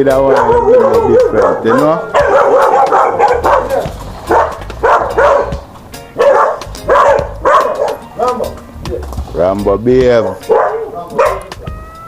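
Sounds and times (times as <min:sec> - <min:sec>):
dog barking: 0:00.1 - 0:09.1, 0:10.2 - 0:11.7.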